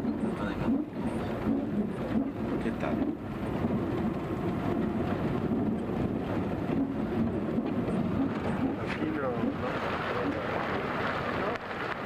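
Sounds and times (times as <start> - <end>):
vehicle rumble on dirt road: 0.0 - 12.0.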